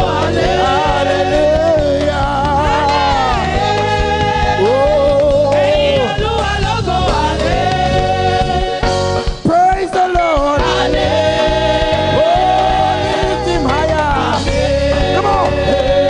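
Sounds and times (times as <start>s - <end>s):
gospel singers: 0.0s - 16.0s
live band with drums and bass: 0.0s - 16.0s.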